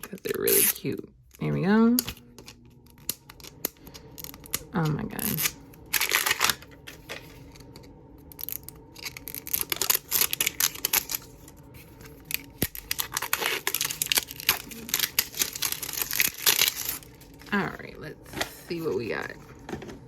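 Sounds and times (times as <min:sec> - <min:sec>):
plastic packaging crinkling and tearing: 0:02.4 - 0:19.7.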